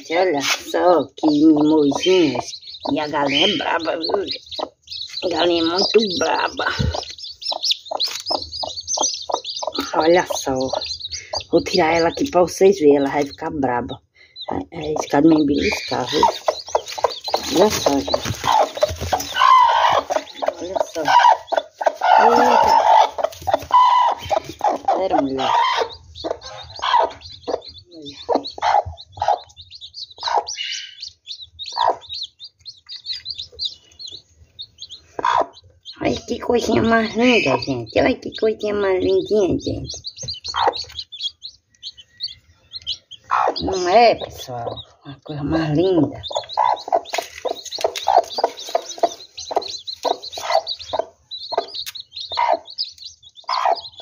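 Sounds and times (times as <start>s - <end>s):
chicks peeping: 0.0s - 54.0s
hen clucking: 0.0s - 54.0s.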